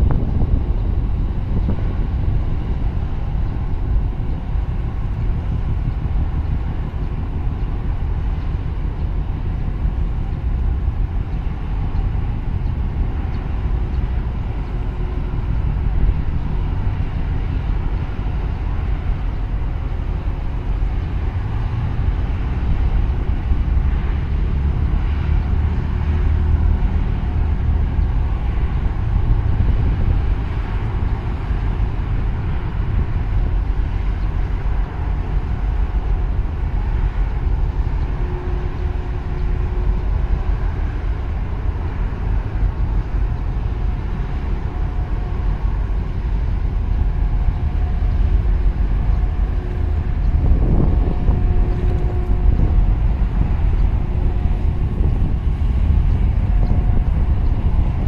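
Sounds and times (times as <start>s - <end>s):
marine engines rumbling: 0.0s - 58.0s
wind buffeting microphone: 0.0s - 58.0s.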